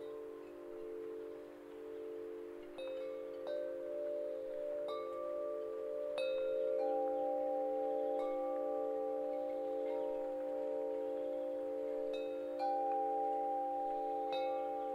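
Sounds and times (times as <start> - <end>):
chimes ringing: 0.0 - 14.9.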